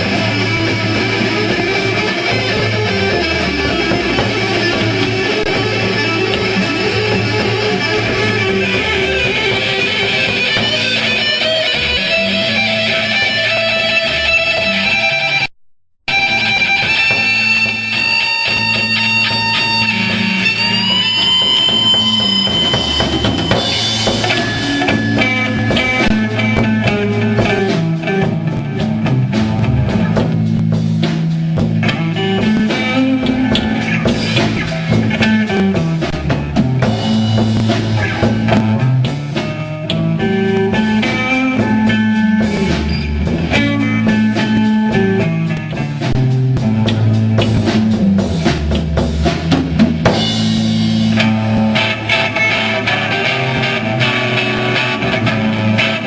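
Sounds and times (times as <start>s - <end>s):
drum kit: 0.0s - 15.5s, 16.1s - 56.0s
electric guitar: 0.0s - 15.5s, 16.1s - 56.0s.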